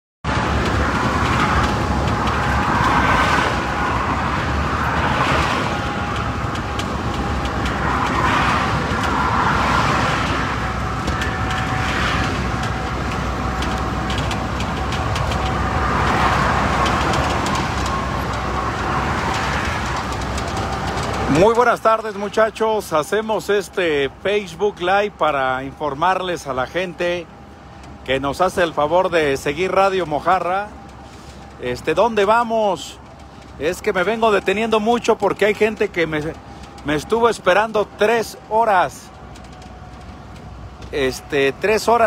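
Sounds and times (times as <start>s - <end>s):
road traffic rumble: 0.2s - 42.0s.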